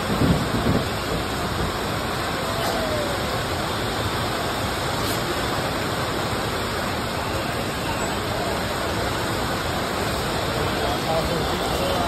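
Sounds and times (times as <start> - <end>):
heavy rain on a roof: 0.0 - 12.0.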